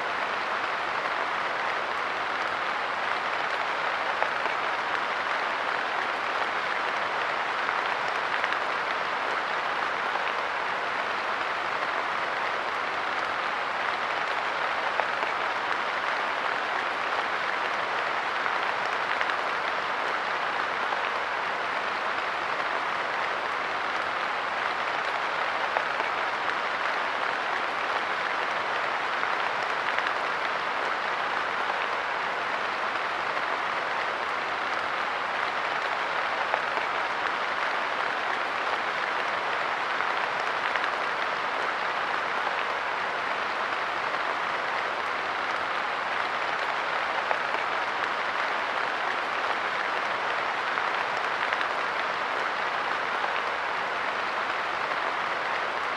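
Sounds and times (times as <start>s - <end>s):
light rain pattering on a bench: 0.0s - 55.9s.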